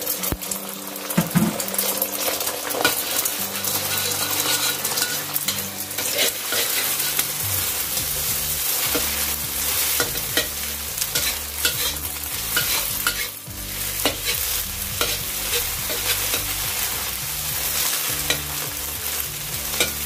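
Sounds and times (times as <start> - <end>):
eggs sizzling in oil: 0.0 - 20.0
spatula scraping a pan: 2.7 - 20.0.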